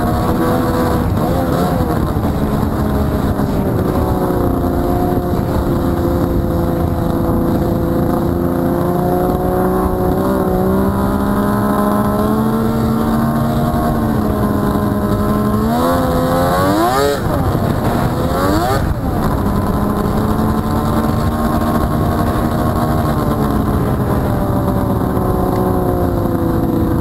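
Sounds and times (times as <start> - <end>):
snowmobile two-stroke engine running: 0.0 - 27.0.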